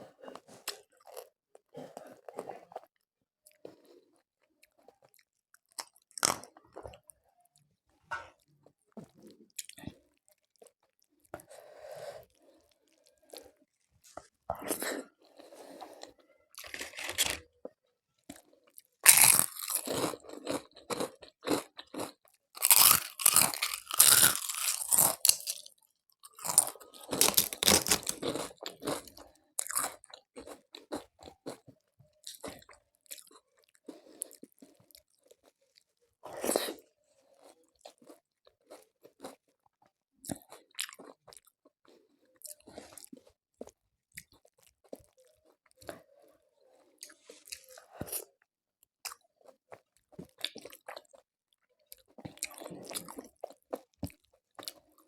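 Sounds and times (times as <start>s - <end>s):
crunchy snack being chewed: 2.0s - 7.1s, 9.0s - 11.4s, 16.0s - 46.0s, 47.0s - 48.4s, 49.0s - 55.0s.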